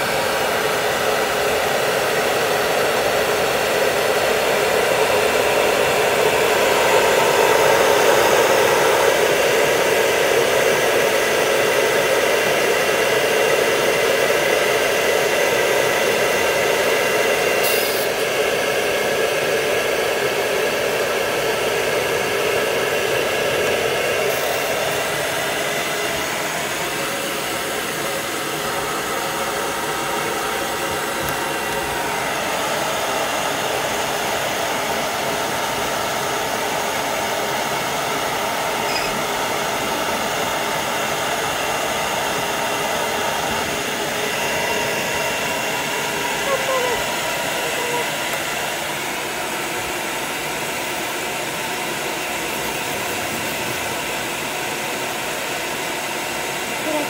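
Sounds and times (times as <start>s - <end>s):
blow dryer running: 0.0s - 57.0s.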